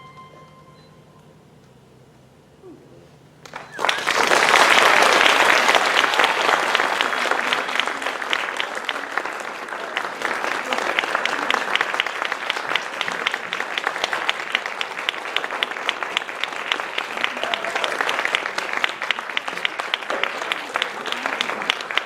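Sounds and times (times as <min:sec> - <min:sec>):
audience applauding: 0:03.4 - 0:22.0
close rapid hand clapping: 0:03.4 - 0:22.0.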